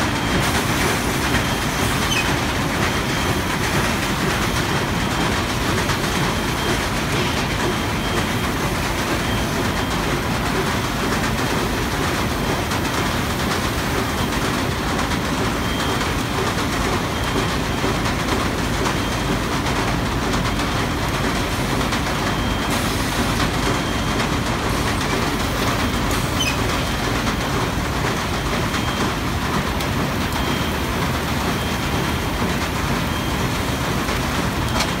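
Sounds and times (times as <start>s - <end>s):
steady machine noise: 0.0s - 35.0s.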